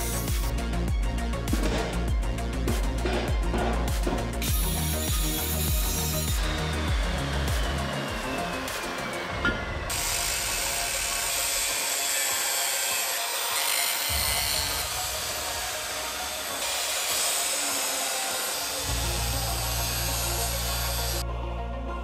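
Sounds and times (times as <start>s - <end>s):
angle grinder grinding steel: 3.1s - 21.2s.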